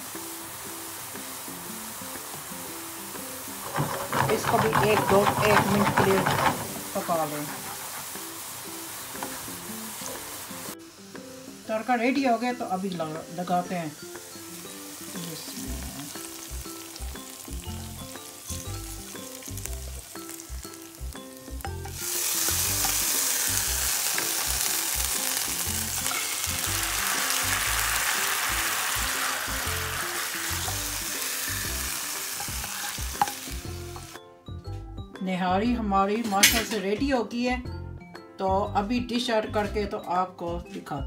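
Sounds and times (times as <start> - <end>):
hot oil sizzling: 0.0 - 34.3.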